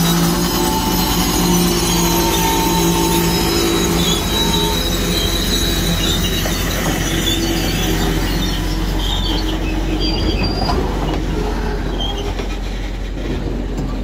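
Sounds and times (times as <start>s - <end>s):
steel wheels squealing on rail: 0.0s - 14.0s
train rumble: 0.0s - 14.0s.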